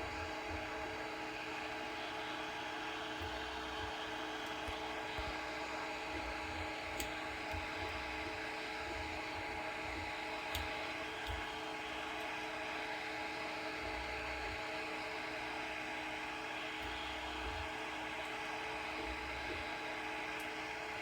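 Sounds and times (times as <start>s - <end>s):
fan and stepper motor whir: 0.0s - 21.0s.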